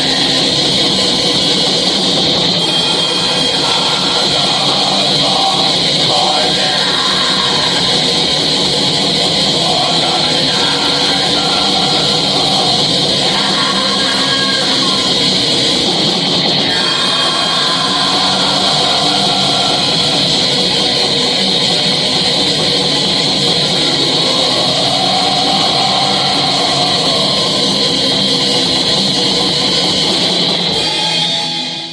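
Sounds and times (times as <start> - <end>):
metal band with distorted guitars: 0.0 - 31.9.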